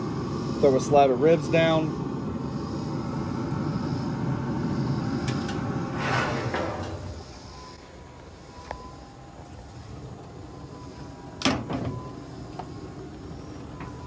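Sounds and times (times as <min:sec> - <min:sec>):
grill fan whirring: 0:00.0 - 0:14.0.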